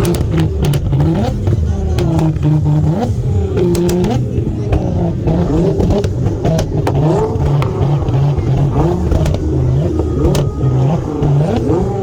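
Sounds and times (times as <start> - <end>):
car engine revving: 0.0 - 12.0
exhaust cracks: 0.0 - 12.0.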